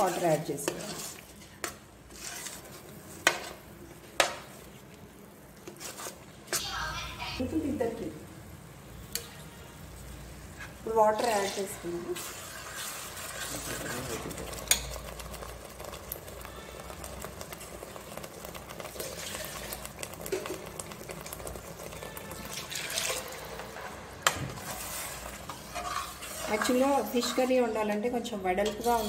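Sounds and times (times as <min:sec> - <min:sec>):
curry bubbling in a pot: 0:00.0 - 0:06.6, 0:10.3 - 0:27.7.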